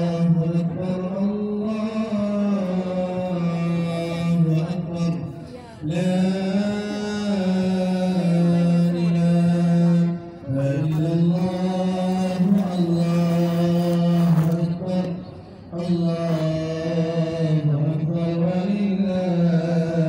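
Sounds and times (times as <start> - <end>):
person chanting: 0.0 - 20.0.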